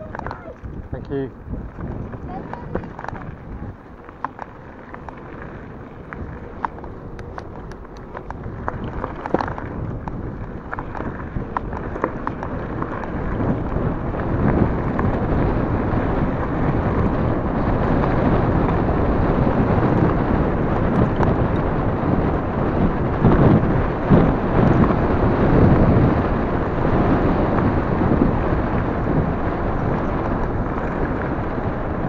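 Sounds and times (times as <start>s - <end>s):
tyres rolling on gravel: 0.0s - 32.0s
wind rushing over microphone: 0.0s - 32.0s.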